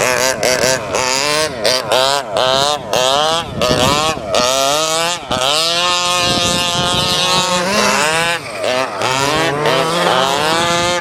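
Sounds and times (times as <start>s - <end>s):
rc truck engine revving: 0.0s - 11.0s.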